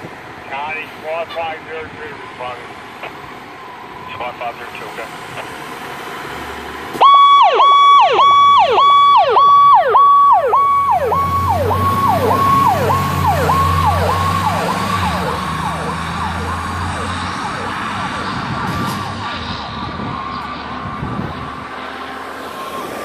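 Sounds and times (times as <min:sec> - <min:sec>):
truck engine rumbling: 0:00.0 - 0:23.0
fire truck siren wailing: 0:00.2 - 0:23.0.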